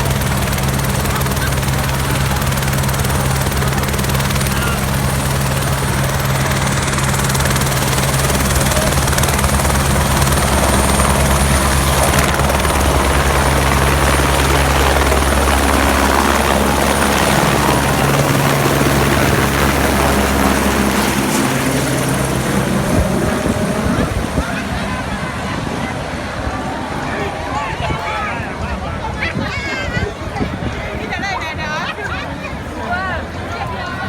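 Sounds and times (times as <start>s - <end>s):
helicopter rotor drone: 0.0s - 34.0s.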